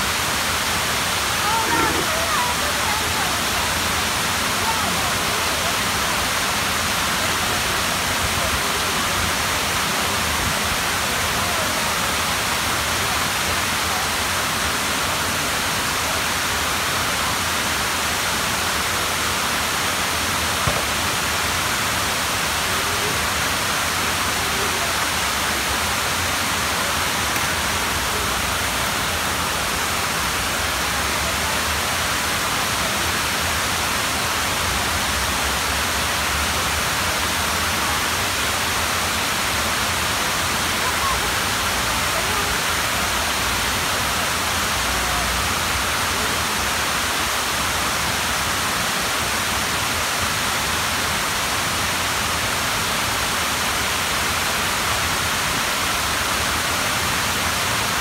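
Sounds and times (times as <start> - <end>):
waterfall hiss: 0.0 - 58.0.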